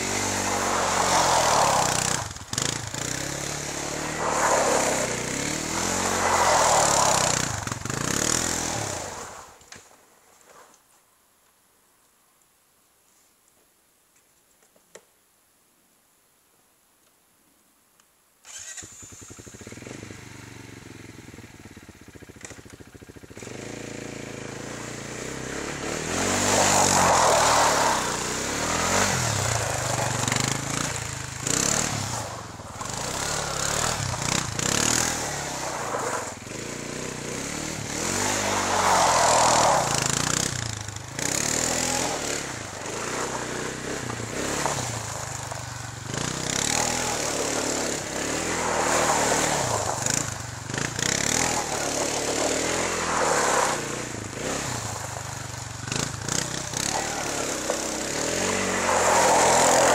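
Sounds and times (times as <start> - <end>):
quad engine revving: 0.0 - 9.3, 18.5 - 59.9.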